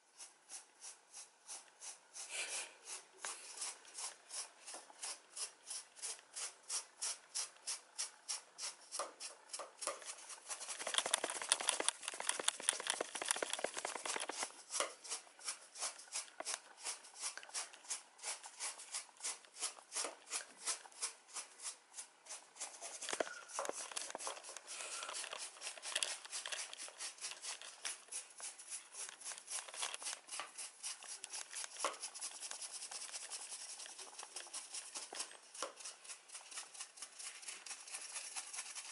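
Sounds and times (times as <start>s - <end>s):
brush scraping through cat fur: 0.0s - 38.9s.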